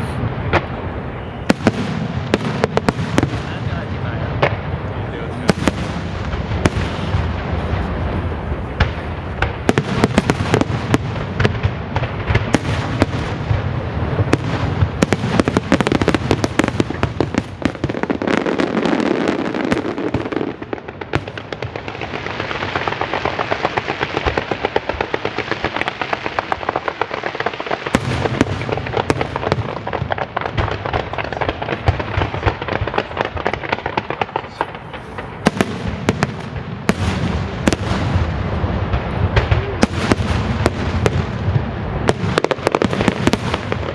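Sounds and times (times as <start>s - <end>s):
deep fireworks booms: 0.0s - 43.9s
fireworks bursts and crackle: 0.0s - 43.9s.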